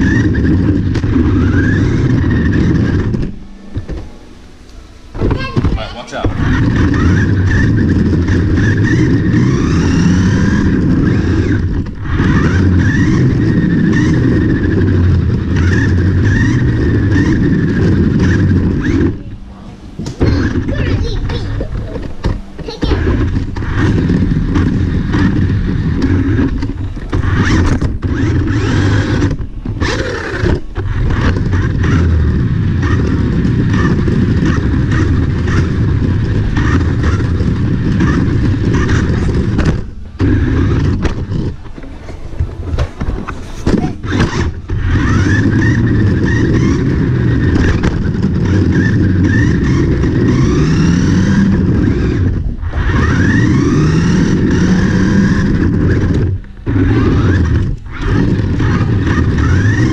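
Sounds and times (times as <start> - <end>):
toy car electric motor whining: 0.0 - 4.0, 5.4 - 19.4, 20.0 - 59.9
tyres on hardwood floor: 0.0 - 59.9.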